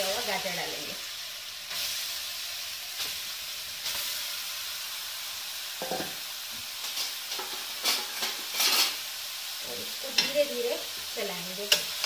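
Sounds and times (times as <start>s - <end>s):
carrots sizzling in hot fat: 0.0s - 12.0s.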